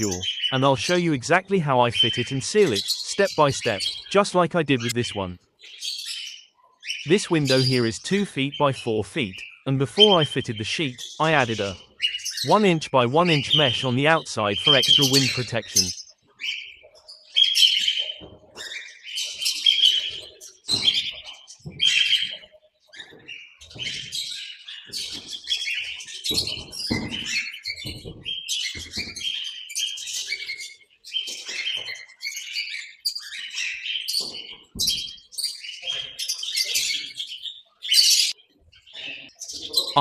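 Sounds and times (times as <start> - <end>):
parrots chirping and calling: 0.0 - 40.0.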